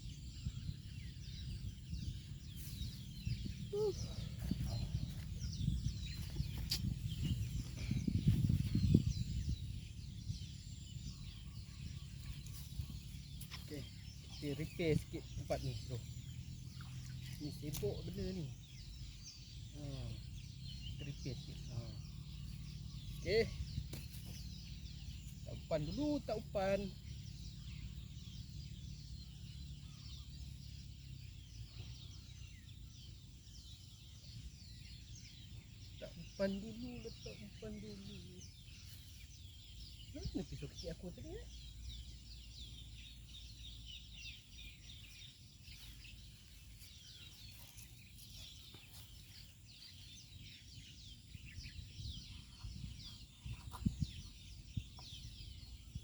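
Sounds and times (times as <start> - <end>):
low rustling rumble: 0.0 - 36.4, 37.1 - 56.0
birds chirping: 0.0 - 56.0.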